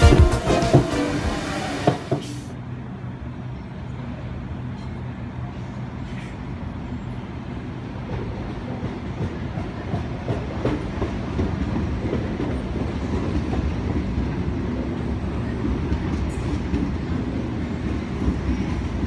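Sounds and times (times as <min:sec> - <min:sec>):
train rolling rumble: 0:00.0 - 0:19.0.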